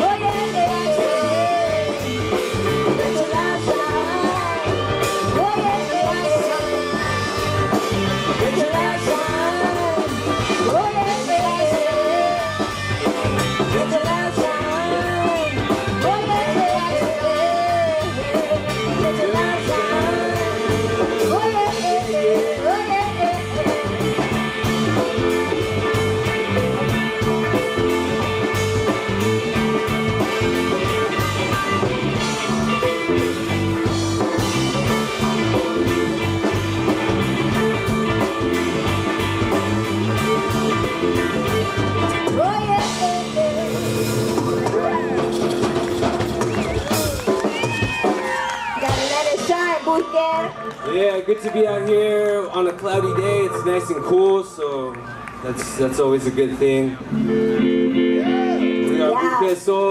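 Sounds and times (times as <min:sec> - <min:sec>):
wavering lead melody: 0:00.0 - 0:47.4, 0:48.9 - 0:55.5, 0:56.6 - 0:59.6
steady drum beat: 0:00.0 - 0:50.4
guitar: 0:00.0 - 0:59.9
live band music: 0:00.0 - 0:59.9.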